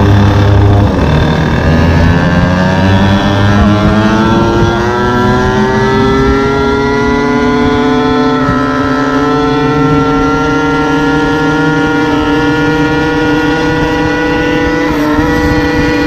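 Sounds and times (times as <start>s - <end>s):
scooter two-stroke engine: 0.0s - 16.0s.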